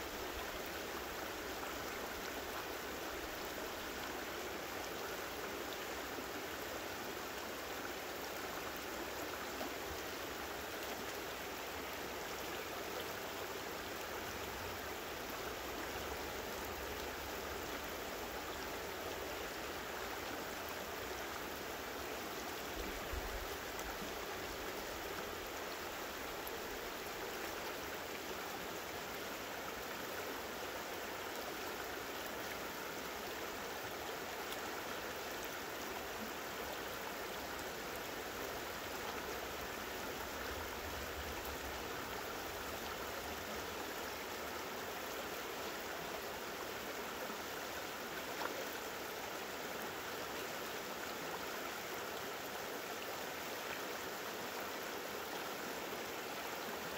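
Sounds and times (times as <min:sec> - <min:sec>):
river flowing over boulders: 0:00.0 - 0:56.9.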